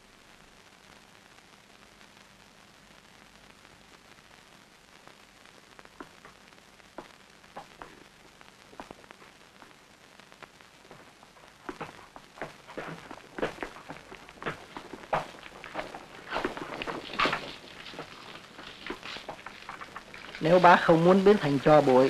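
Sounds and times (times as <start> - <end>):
fire crackling and popping: 0.0 - 22.0
steady hiss: 0.0 - 22.0.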